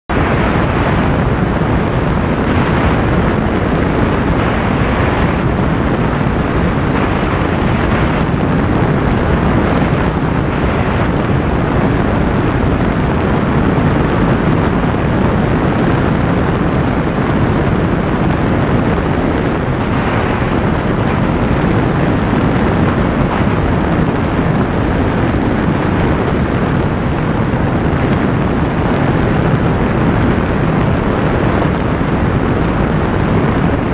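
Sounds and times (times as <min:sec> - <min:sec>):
wind rushing over microphone: 0:00.0 - 0:33.9
plane engine running: 0:00.1 - 0:33.9.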